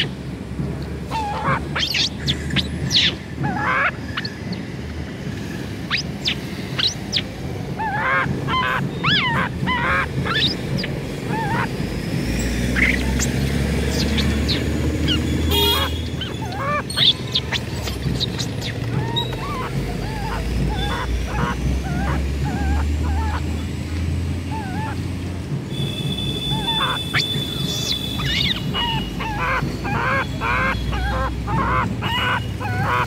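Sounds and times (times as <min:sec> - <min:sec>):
birds chirping and squawking: 0:00.0 - 0:25.2, 0:25.8 - 0:33.0.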